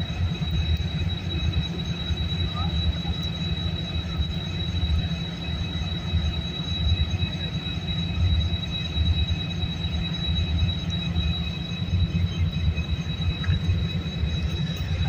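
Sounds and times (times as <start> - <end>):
locomotive engine rumbling: 0.0 - 15.0
thin high whine: 0.0 - 15.0.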